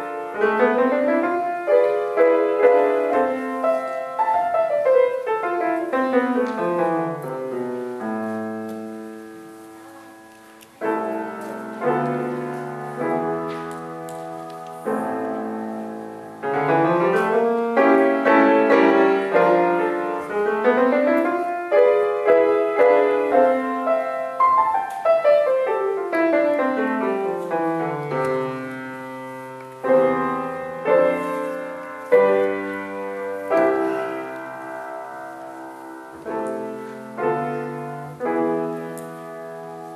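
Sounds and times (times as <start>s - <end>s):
solo piano playing classical piece: 0.0s - 39.9s.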